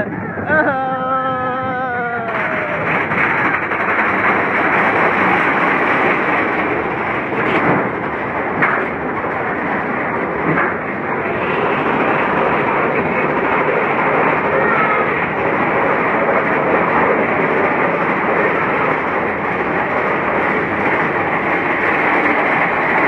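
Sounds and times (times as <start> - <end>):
roller coaster rumbling on track: 0.0 - 23.0.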